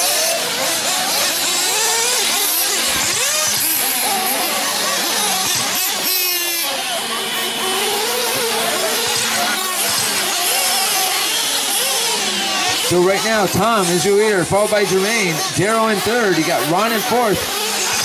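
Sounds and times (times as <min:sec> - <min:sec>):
rc car motors whining: 0:00.0 - 0:18.0.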